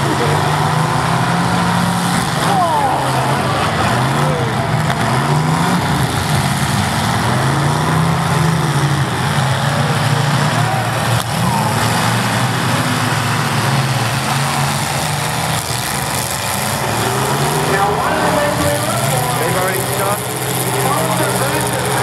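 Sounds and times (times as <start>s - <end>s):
car engines revving: 0.0s - 22.0s
cars ramming each other: 0.0s - 22.0s.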